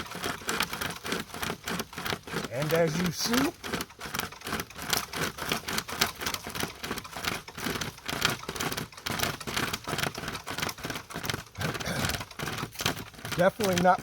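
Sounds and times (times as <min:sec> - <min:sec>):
hand chainsaw rasping through wood: 0:00.0 - 0:14.0.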